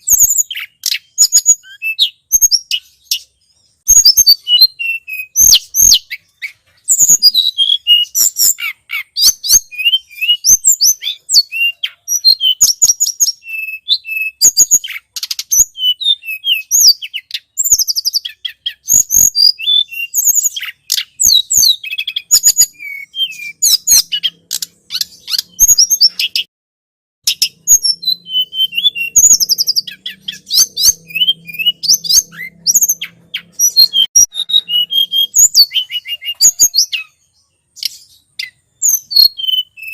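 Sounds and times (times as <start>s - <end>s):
bird chirps and ticking notes: 0.0s - 26.5s, 27.2s - 39.9s.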